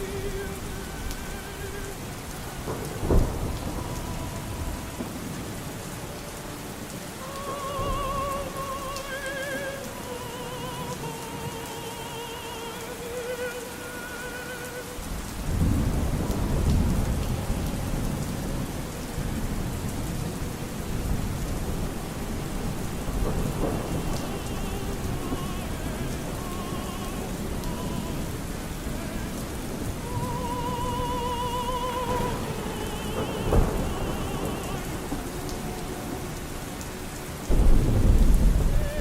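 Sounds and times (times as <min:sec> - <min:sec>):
operatic singing with vibrato: 0:00.0 - 0:39.0
steady rain: 0:00.0 - 0:39.0
thunder rumbling: 0:00.0 - 0:39.0.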